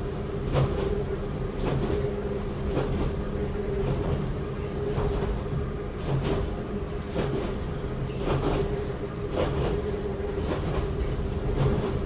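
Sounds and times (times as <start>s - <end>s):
railcar rumble and hum: 0.0s - 12.0s.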